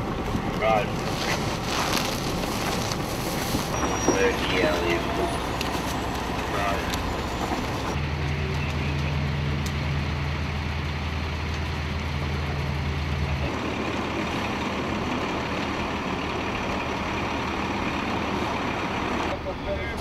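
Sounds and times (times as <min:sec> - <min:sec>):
outdoor noise: 0:00.0 - 0:20.0
vehicle engine idling: 0:00.0 - 0:20.0.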